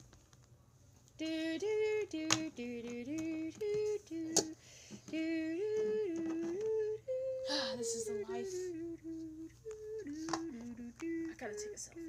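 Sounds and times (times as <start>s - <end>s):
person humming: 1.2s - 12.0s.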